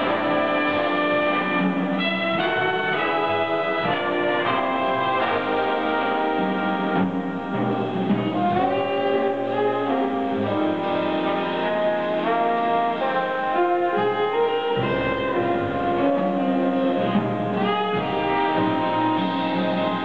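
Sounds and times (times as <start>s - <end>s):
brass and saxophone sections: 0.0s - 20.0s
piano: 0.0s - 20.0s
upright bass: 0.0s - 20.0s.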